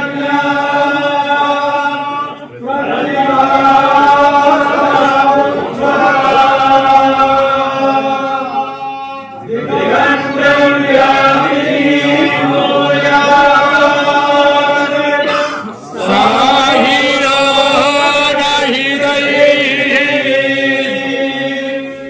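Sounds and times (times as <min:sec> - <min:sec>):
male voices chanting in unison: 0:00.0 - 0:22.0.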